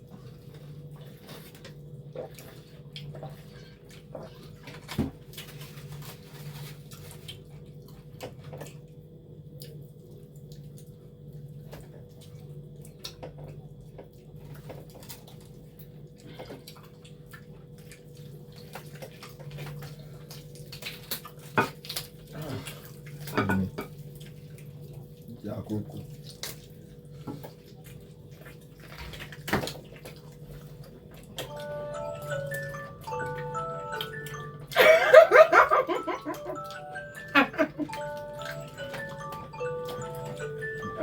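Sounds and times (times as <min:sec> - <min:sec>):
people chewing and smacking: 0:00.0 - 0:41.0.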